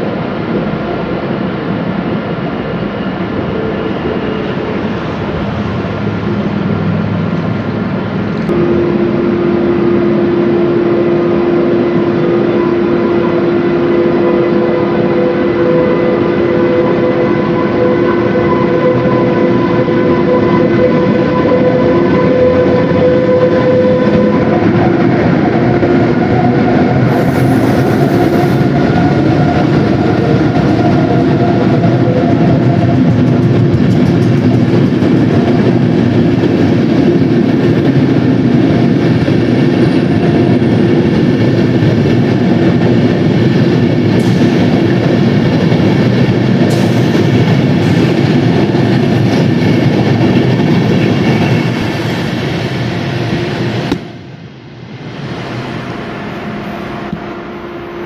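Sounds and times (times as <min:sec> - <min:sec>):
electric locomotive whine: 0:00.0 - 0:58.0
train coaches rumbling and clattering: 0:00.0 - 0:58.0.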